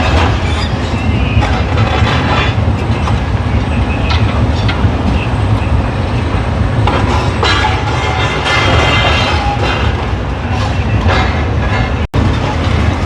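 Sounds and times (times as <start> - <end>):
excavator engine rumble: 0.0 - 13.0.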